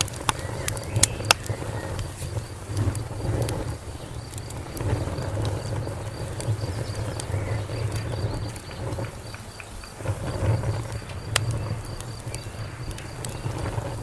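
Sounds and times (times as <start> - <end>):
low rumble of burning flames: 0.0 - 14.0
wood fire crackling and popping: 0.0 - 14.0.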